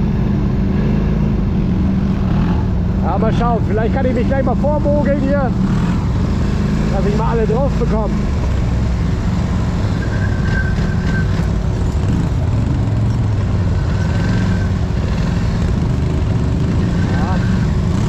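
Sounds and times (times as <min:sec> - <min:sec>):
atv engine running at low speed: 0:00.0 - 0:18.0.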